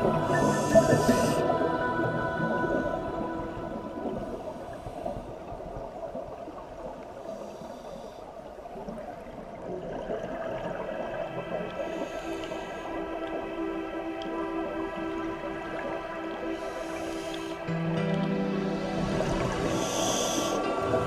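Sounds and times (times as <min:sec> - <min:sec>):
soft music of long held notes: 0:00.0 - 0:08.9, 0:10.2 - 0:21.0.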